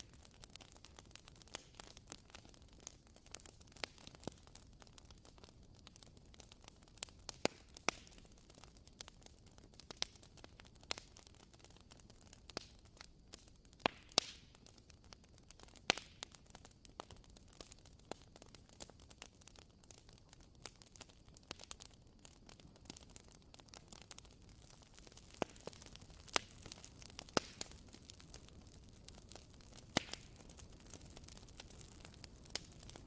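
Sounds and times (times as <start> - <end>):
candle wick crackling and popping: 0.0 - 33.0
faint steady hiss: 0.0 - 33.0.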